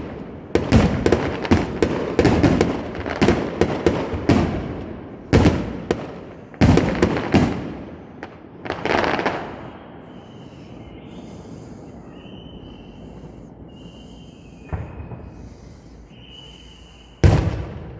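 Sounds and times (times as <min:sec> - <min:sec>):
fireworks bangs: 0:00.0 - 0:17.9
fireworks crackling: 0:00.0 - 0:17.9.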